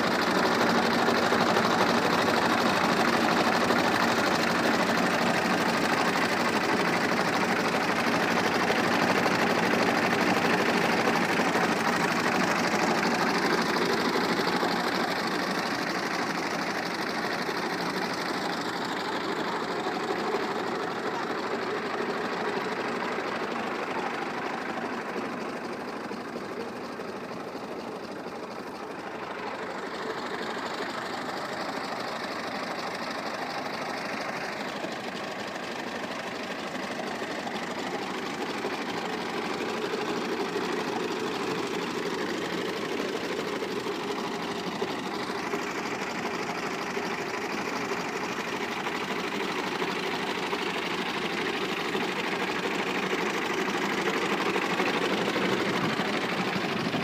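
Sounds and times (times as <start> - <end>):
tractor diesel engine clattering: 0.0 - 57.0.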